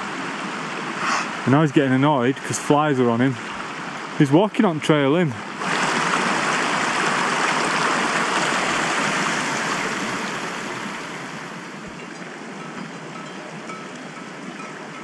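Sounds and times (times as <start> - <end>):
rushing mountain stream: 0.0 - 15.0.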